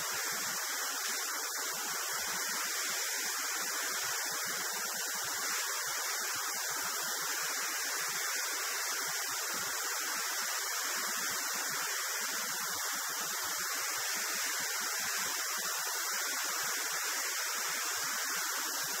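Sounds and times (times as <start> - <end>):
rushing airflow hiss: 0.0 - 19.0.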